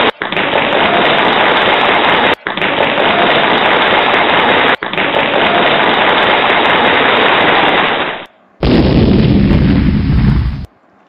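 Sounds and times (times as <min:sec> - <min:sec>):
loud steady crackling: 0:00.0 - 0:10.7.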